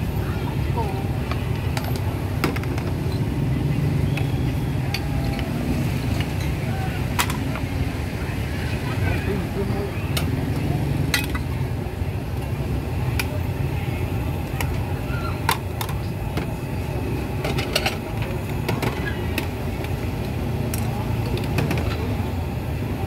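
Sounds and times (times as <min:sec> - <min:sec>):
indistinct voices: 0:00.0 - 0:23.0
traffic rumble: 0:00.0 - 0:23.0.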